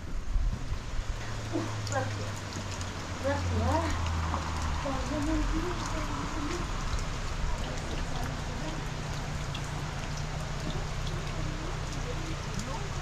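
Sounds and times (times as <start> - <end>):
raindrops clicking close by: 0.0 - 13.0
steady rain falling: 0.0 - 13.0.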